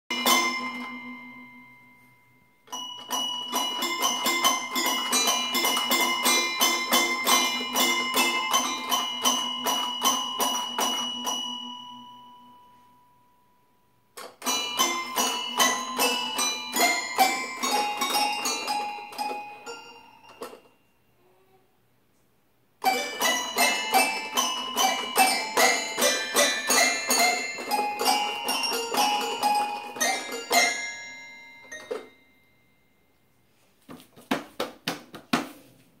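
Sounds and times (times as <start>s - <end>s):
toy piano notes: 0.1s - 12.8s, 14.2s - 21.4s, 22.8s - 32.6s.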